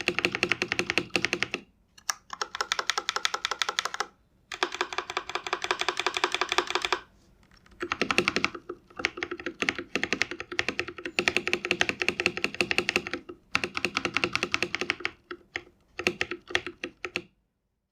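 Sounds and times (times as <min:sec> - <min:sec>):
mechanical keyboard typing: 0:00.0 - 0:17.3.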